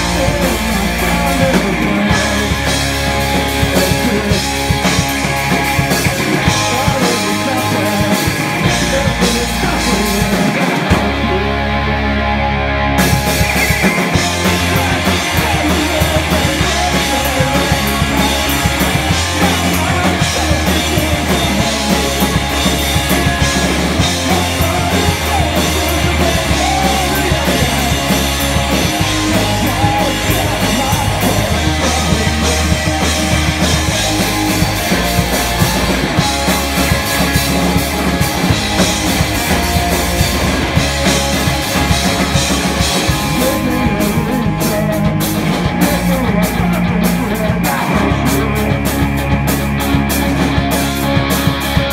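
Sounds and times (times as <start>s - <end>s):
distorted electric guitars: 0.0s - 51.9s
drum kit: 0.0s - 51.9s
electric bass: 0.0s - 51.9s.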